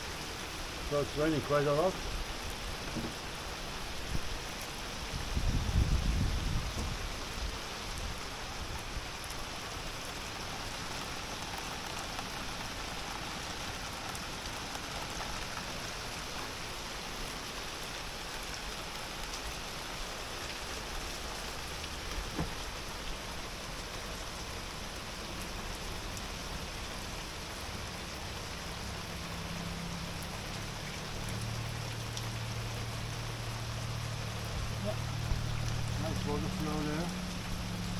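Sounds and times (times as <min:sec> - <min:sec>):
heavy rain on a boat: 0:00.0 - 0:37.9.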